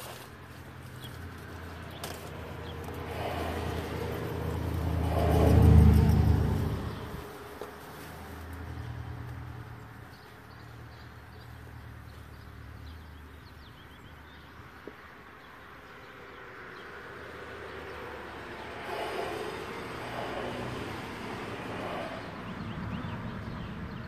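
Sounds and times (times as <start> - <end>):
low engine-like hum: 0.5 - 14.5, 17.8 - 24.0.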